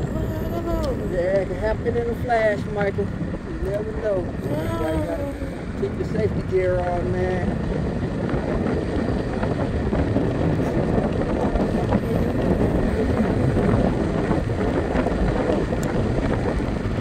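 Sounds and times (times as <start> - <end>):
scooter road noise: 0.0 - 17.0
wind buffeting microphone: 0.0 - 17.0.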